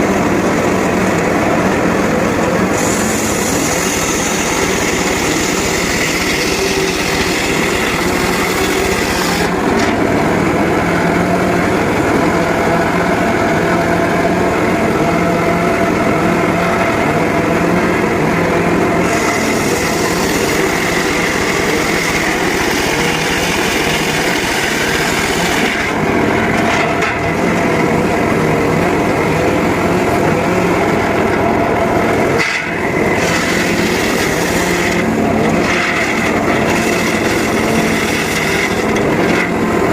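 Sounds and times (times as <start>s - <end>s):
circular sawmill sawing wood: 0.0s - 39.9s.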